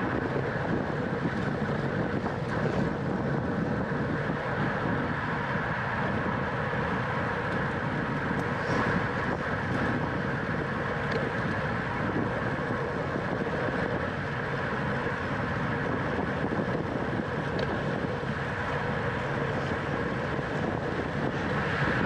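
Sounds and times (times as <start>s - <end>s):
bicycle tyre and road noise: 0.0s - 22.0s
wind rushing over microphone: 0.0s - 22.0s.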